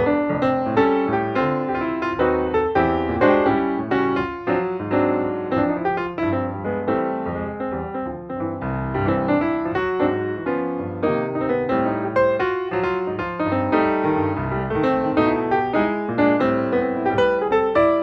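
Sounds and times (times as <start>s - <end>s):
lively piano music: 0.0s - 18.0s.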